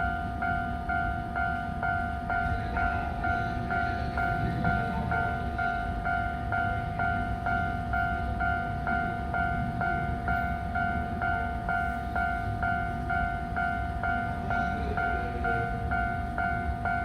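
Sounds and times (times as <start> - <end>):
level crossing alarm ringing: 0.0 - 17.0.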